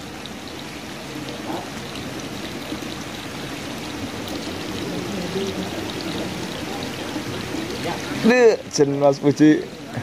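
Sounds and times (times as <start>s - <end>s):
running water: 0.0s - 10.0s.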